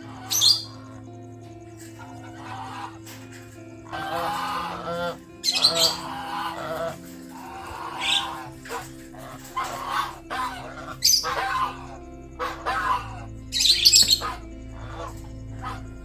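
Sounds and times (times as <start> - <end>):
goose calling: 0.0 - 1.0, 1.8 - 15.8
background music: 0.0 - 16.0.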